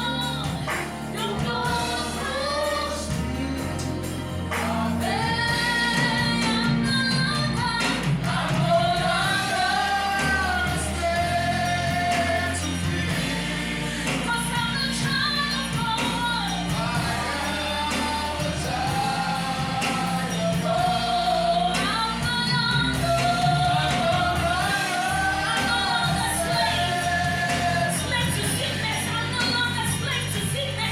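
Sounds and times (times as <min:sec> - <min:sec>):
band with bass line: 0:00.0 - 0:30.9
voices singing together: 0:00.0 - 0:30.9.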